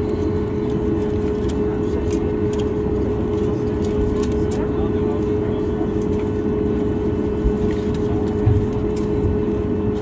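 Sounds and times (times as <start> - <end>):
aircraft cabin hum: 0.0 - 10.0.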